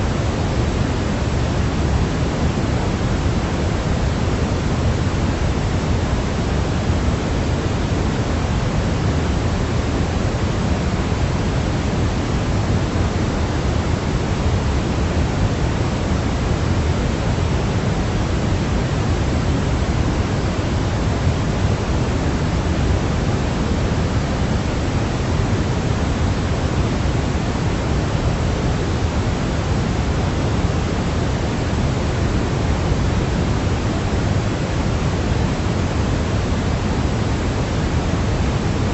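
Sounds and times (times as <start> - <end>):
steady pink noise: 0.0 - 38.9.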